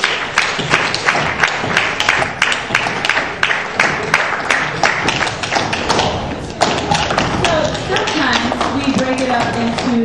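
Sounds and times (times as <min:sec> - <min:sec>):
audience applause: 0:00.0 - 0:09.2.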